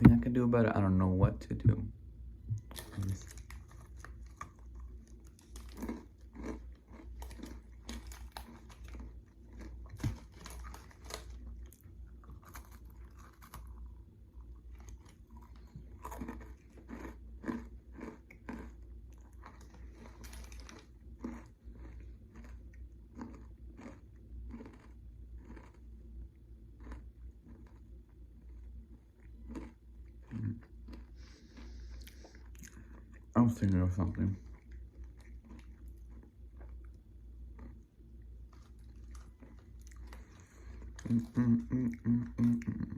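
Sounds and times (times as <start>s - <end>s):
low steady hum: 0.0s - 42.9s
crunchy chewing: 2.6s - 42.9s.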